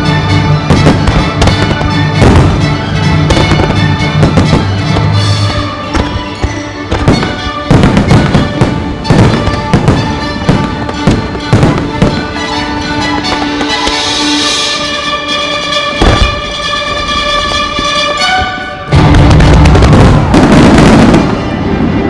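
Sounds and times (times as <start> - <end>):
fireworks bangs: 0.0 - 14.6, 16.0 - 16.8, 18.9 - 22.0
music soundtrack: 0.0 - 22.0.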